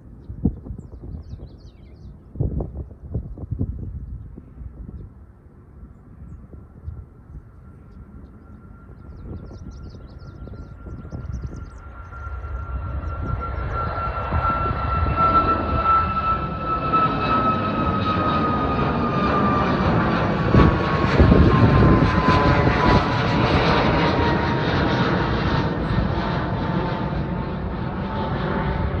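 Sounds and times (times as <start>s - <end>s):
jet engine roar: 0.0s - 29.0s
high jet whine: 3.4s - 29.0s.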